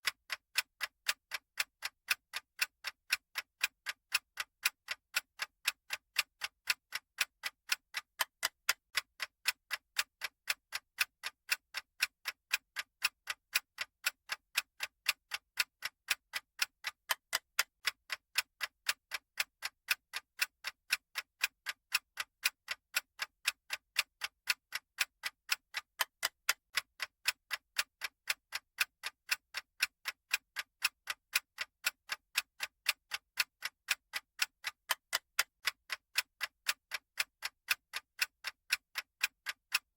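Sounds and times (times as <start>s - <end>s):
clock-style timer ticking: 0.0s - 39.9s.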